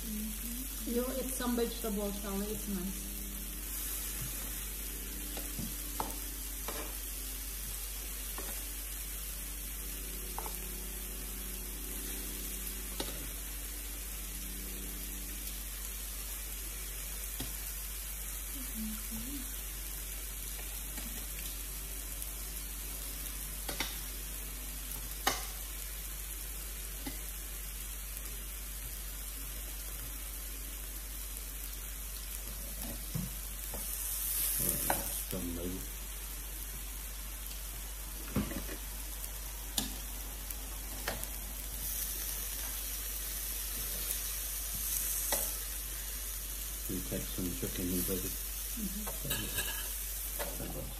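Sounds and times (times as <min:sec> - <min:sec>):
meat sizzling on a grill plate: 0:00.0 - 0:50.9.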